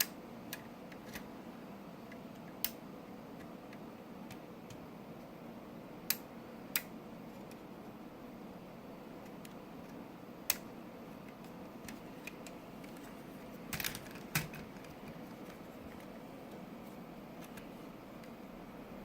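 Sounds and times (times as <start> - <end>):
low room hiss: 0.0 - 19.0.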